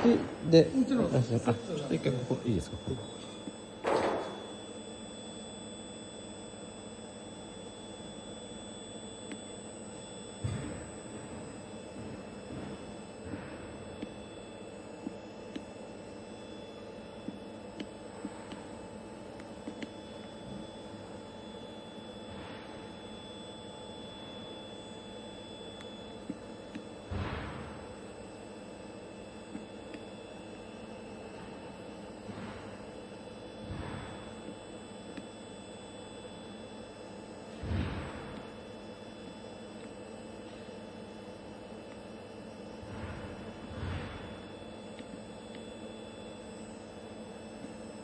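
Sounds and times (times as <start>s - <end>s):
high-pitched electrical whine: 0.0s - 48.0s
machinery hum: 0.0s - 48.0s.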